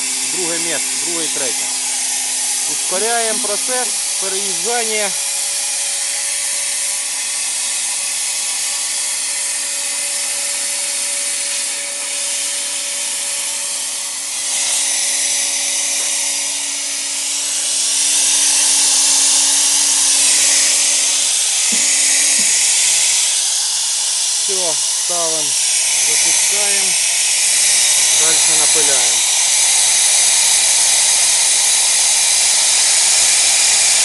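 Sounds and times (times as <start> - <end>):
motor-driven carriage whine: 0.0 - 34.0
spray gun air hiss: 0.0 - 34.0.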